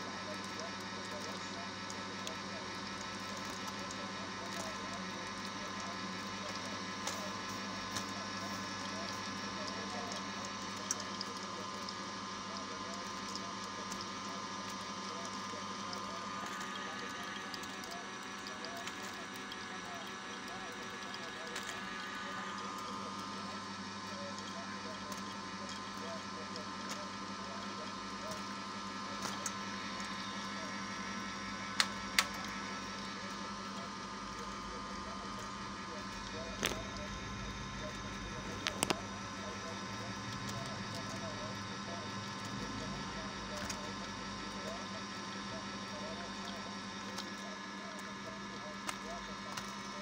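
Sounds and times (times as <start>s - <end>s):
electric oil press humming: 0.0s - 50.0s.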